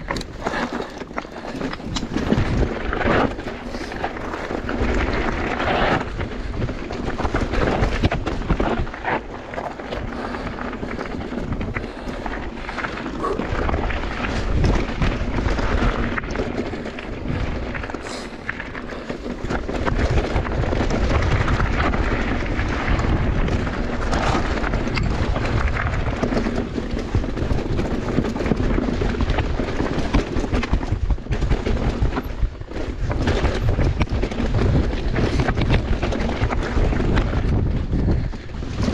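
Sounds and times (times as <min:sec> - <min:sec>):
bike knocking and rattling: 0:00.0 - 0:38.9
bike tyres rumbling over dirt: 0:00.0 - 0:38.9
wind buffeting microphone: 0:00.0 - 0:38.9.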